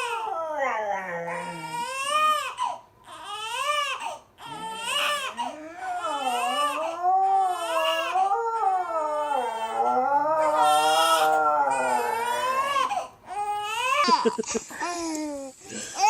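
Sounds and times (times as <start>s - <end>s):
baby crying: 1.3s - 16.0s.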